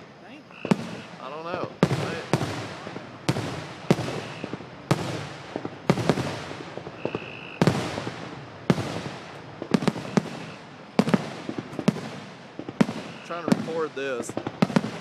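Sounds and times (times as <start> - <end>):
firework crackle: 0.0 - 15.0
firework shells bursting: 0.0 - 15.0.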